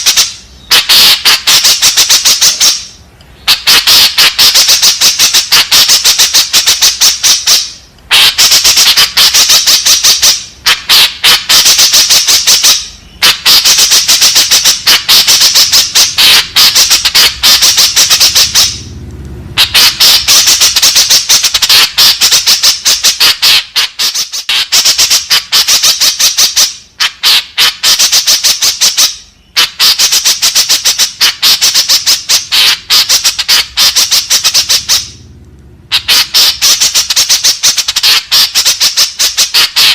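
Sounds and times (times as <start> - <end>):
bird chattering calls: 0.0 - 18.9, 19.6 - 35.2, 35.9 - 39.9.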